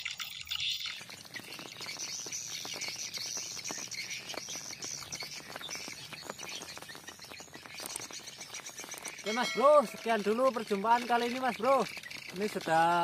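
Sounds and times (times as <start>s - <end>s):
insects chirring: 0.0s - 13.0s
small clicks and rustles: 0.0s - 13.0s.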